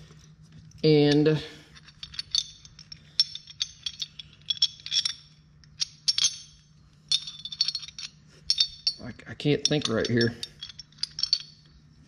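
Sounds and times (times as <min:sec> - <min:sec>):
metal tie-down ring clinking: 0:00.2 - 0:12.0.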